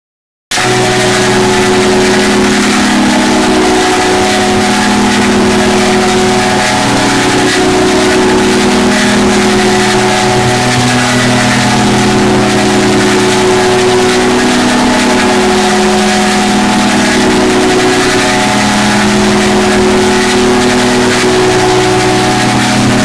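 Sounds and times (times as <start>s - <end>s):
distorted wall of noise: 0.5s - 23.0s
steady droning tones: 0.6s - 23.0s.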